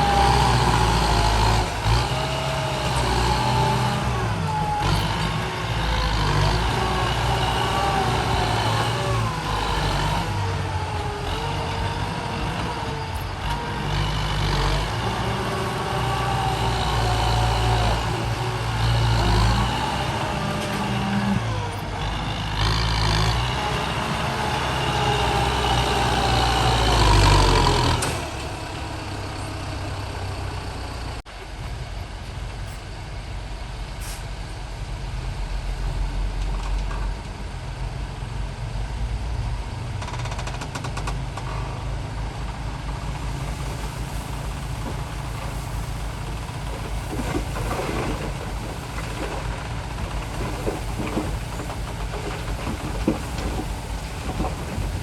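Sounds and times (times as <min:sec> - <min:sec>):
dump truck engine revving: 0:00.0 - 0:31.2, 0:40.0 - 0:55.0.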